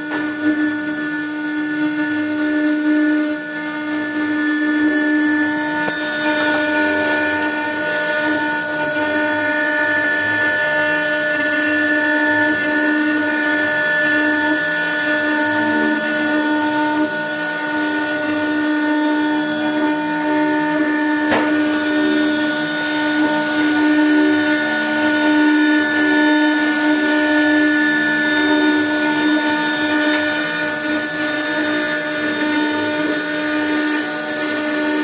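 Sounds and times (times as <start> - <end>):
cnc router spindle whine: 0.0 - 35.0.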